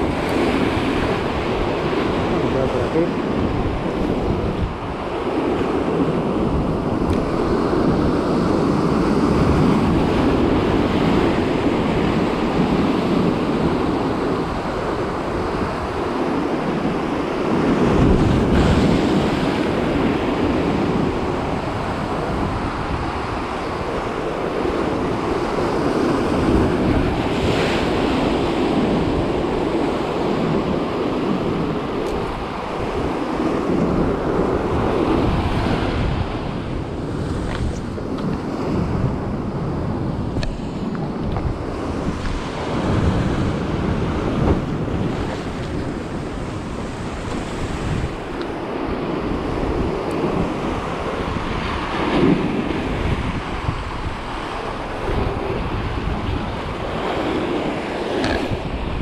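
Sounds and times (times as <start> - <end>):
surf washing on rocky shore: 0.0 - 59.0
wind buffeting microphone: 0.0 - 59.0.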